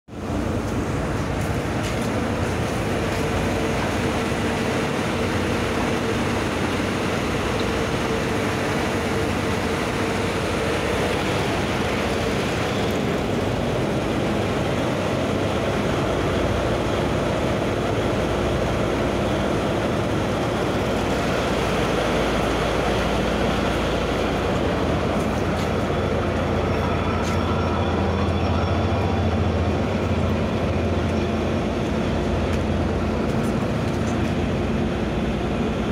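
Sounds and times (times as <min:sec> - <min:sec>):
diesel engine rumble: 0:00.1 - 0:35.9
water noise: 0:00.1 - 0:35.9.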